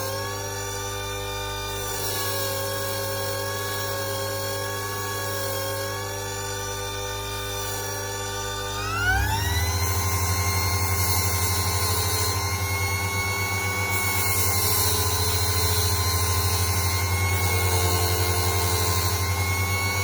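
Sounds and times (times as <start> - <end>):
bench grinder motor whining: 0.0 - 20.0.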